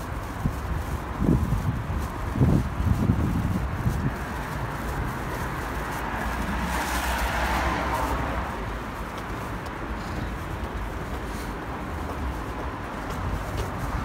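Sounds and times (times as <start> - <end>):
low traffic rumble: 0.0 - 14.0
car passing: 1.2 - 14.0.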